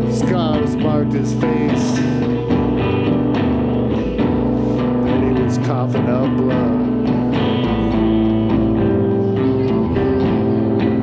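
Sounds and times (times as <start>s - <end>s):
live rock electric guitar: 0.0s - 11.0s.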